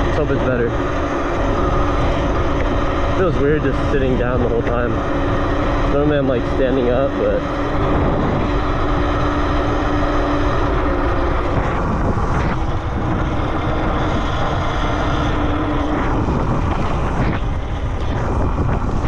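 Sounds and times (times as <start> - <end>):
electric motor whine: 0.0 - 19.0
wind rumble on microphone: 0.0 - 19.0.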